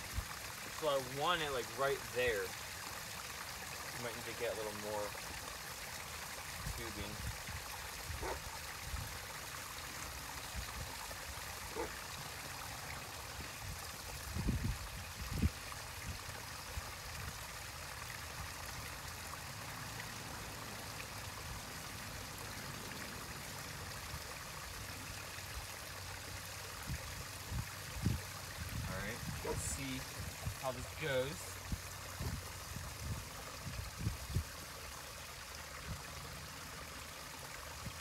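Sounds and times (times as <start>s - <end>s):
trickle of running water: 0.0s - 38.0s.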